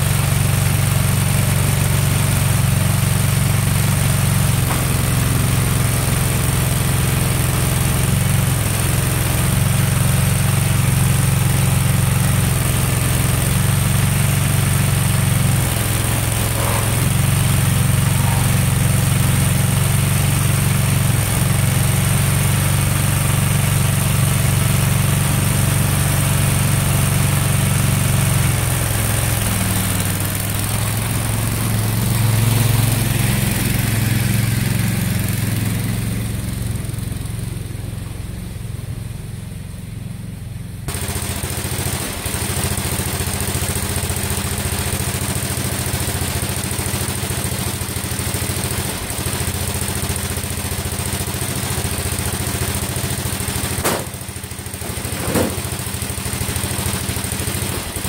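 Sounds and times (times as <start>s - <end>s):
garden tractor engine running: 0.0s - 58.0s.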